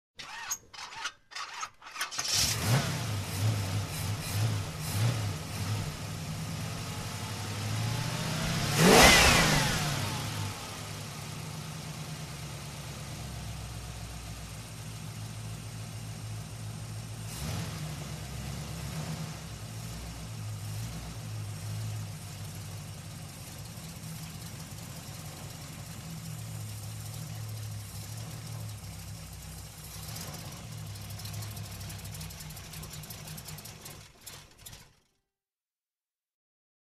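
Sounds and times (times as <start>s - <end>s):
car engine idling and revving: 2.0s - 35.1s.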